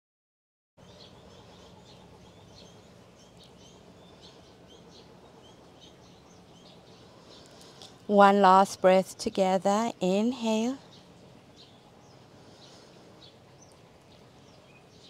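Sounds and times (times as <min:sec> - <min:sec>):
faint steady hiss: 0:00.8 - 0:15.0
small birds chirping: 0:00.8 - 0:15.0.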